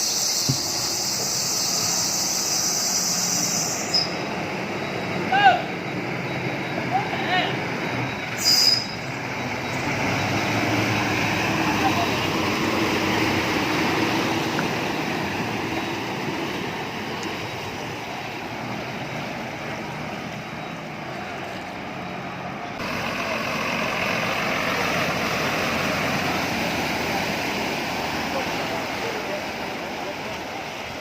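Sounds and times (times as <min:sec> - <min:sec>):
bus engine and road noise: 0:00.0 - 0:31.0.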